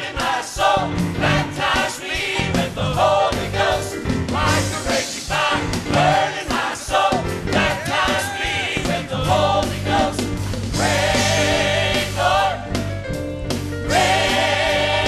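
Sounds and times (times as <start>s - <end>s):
gospel choir singing: 0.0s - 13.0s, 13.8s - 15.0s
instrumental accompaniment: 0.0s - 15.0s.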